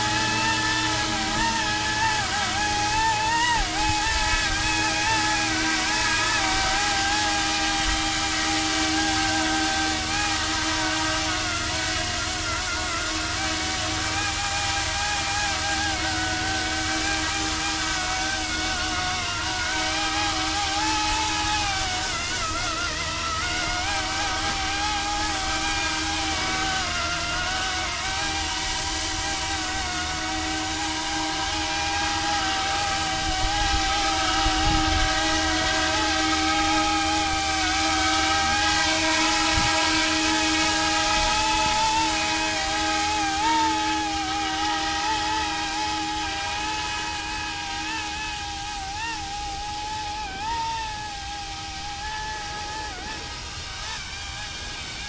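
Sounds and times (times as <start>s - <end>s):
rc helicopter motor and rotors whining: 0.0s - 55.0s
steady low hum: 0.0s - 55.0s.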